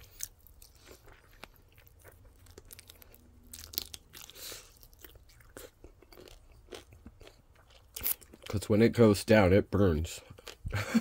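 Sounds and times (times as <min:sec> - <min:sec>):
chewing crispy chicken: 0:00.0 - 0:08.9, 0:10.2 - 0:10.8.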